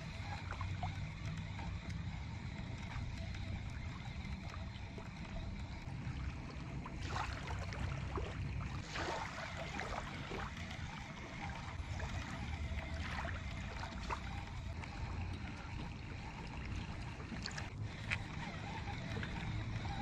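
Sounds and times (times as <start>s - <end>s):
small waves lapping: 0.0s - 20.0s.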